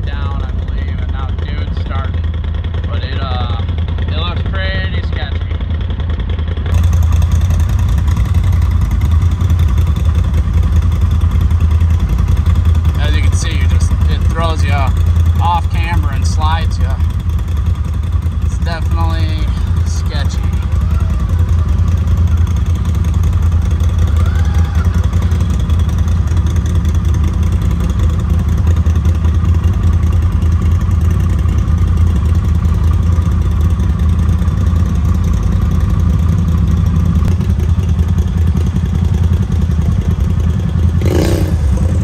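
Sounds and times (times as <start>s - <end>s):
utility vehicle engine droning: 0.0s - 42.0s.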